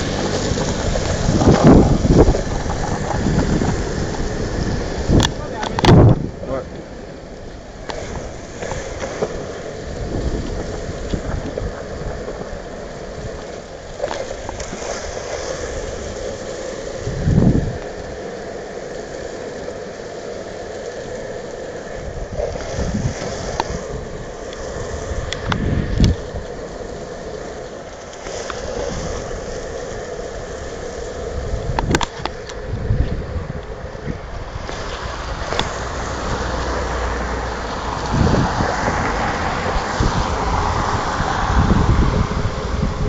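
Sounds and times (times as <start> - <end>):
wind gust on microphone: 0.0 - 6.7, 7.7 - 18.4, 20.5 - 43.0
longboard wheels rolling on wet pavement: 0.0 - 43.0.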